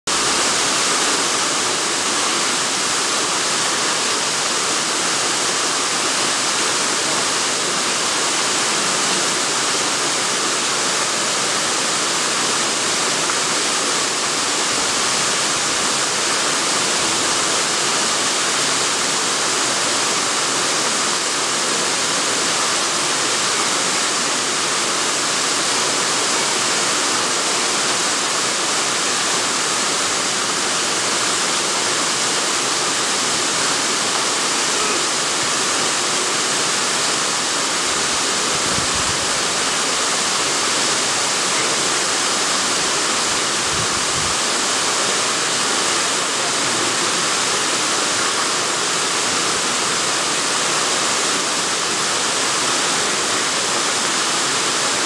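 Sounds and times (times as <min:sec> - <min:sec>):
steady rushing hiss: 0:00.1 - 0:55.0.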